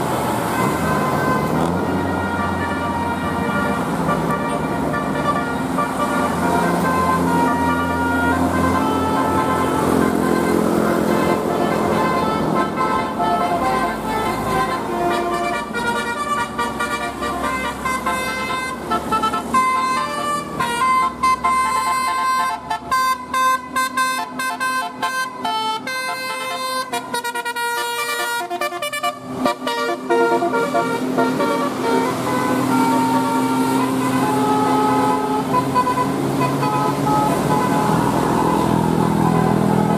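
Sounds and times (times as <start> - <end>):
multi-tone air horns playing tune: 0.4 - 39.9.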